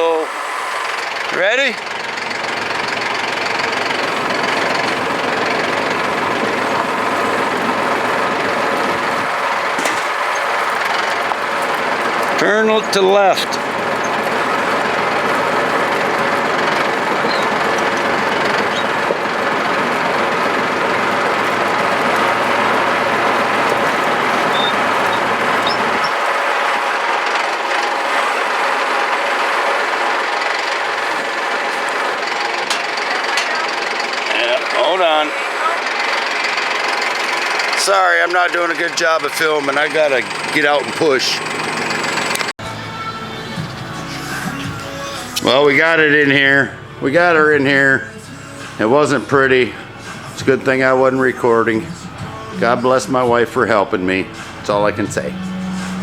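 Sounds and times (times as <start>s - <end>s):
vehicle engine running under load: 0.0s - 56.0s.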